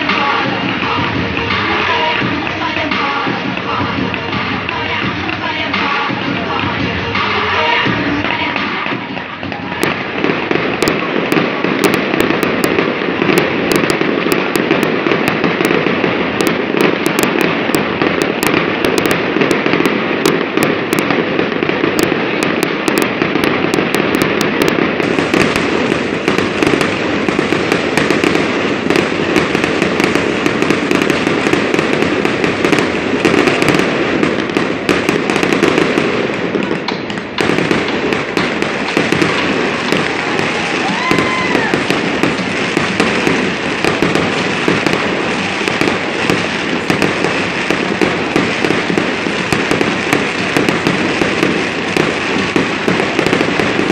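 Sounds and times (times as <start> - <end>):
firework crackling and popping: 0.0 - 53.9
firework fountains spraying sparks: 0.0 - 53.9.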